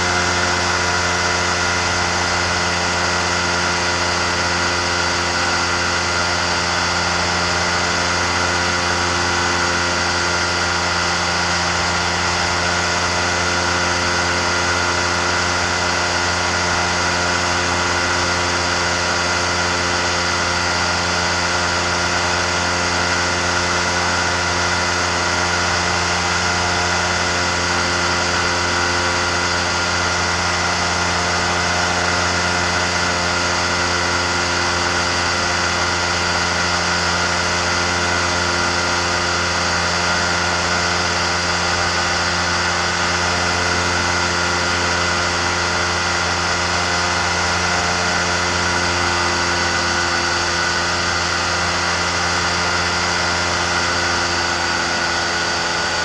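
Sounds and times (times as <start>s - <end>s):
propeller engine droning: 0.0s - 56.0s.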